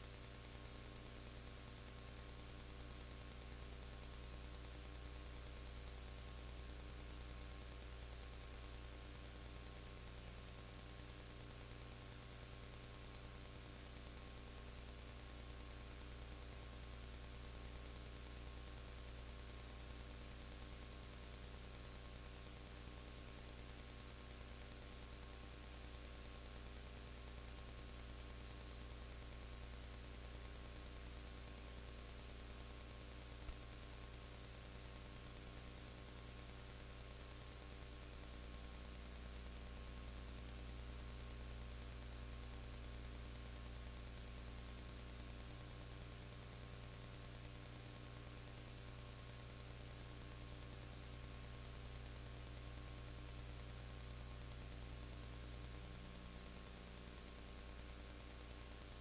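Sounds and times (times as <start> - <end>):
electrical hum with hiss: 0.0 - 59.0.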